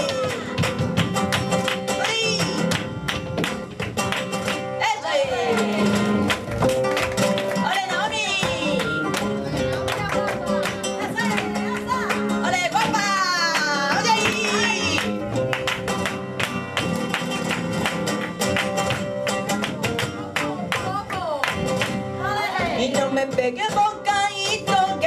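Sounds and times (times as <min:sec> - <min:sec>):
flamenco guitar playing: 0:00.0 - 0:25.0.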